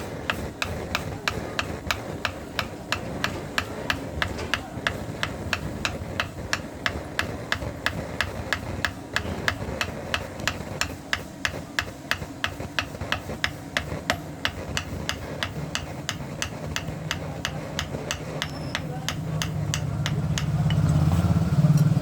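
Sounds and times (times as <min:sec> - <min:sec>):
rapid sharp taps: 0:00.2 - 0:20.7.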